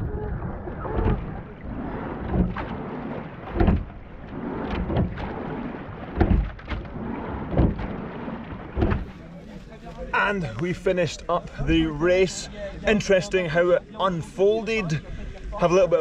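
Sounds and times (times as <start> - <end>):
short loud water rush: 0.0 - 12.9
water and wind noise: 0.0 - 16.0.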